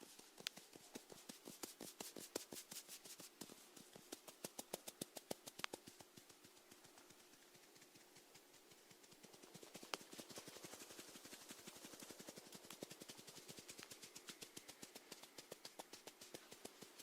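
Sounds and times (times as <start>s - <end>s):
snails feeding with tiny clicks: 0.1s - 17.0s.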